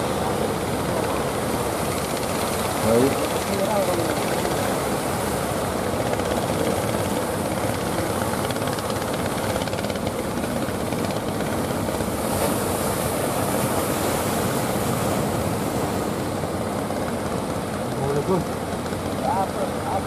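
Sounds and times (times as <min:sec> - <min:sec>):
boat engines chugging: 0:00.0 - 0:20.0
waves breaking: 0:00.0 - 0:20.0.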